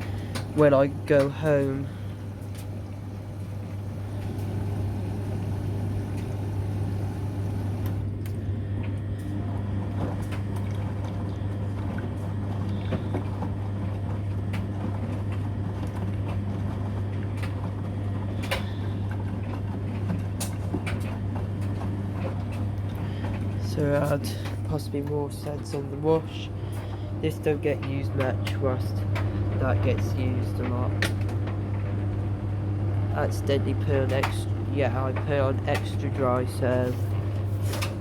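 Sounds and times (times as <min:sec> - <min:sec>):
water running into washing machine: 0:00.0 - 0:38.0.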